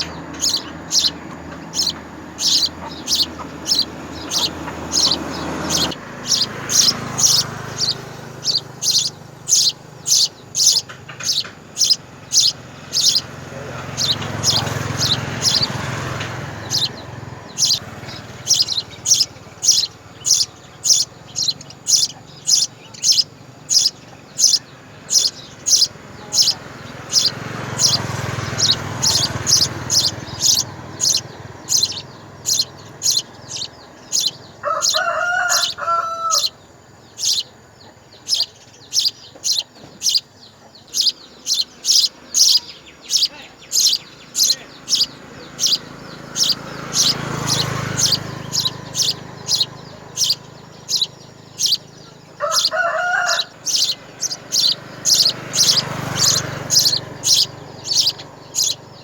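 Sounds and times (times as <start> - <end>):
baby birds cheeping: 0.0 - 59.0.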